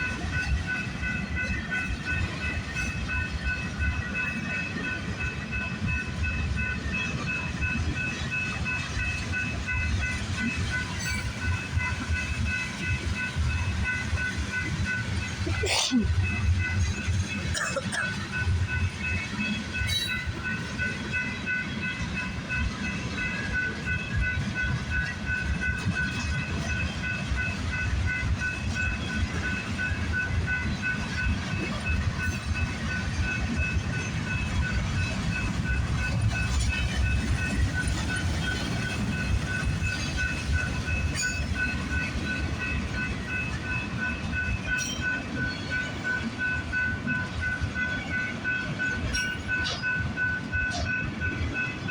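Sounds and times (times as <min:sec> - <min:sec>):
freight train cars rumbling: 0:00.0 - 0:51.9
level-crossing bell dinging: 0:00.0 - 0:51.9.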